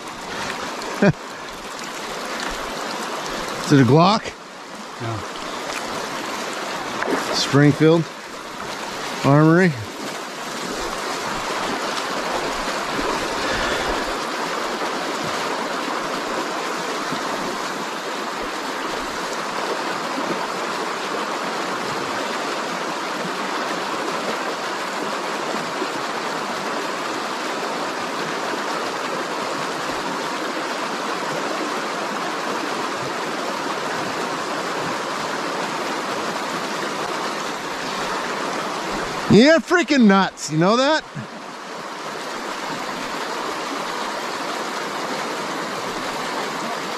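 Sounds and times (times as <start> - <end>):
river rushing over rocks: 0.0 - 46.9.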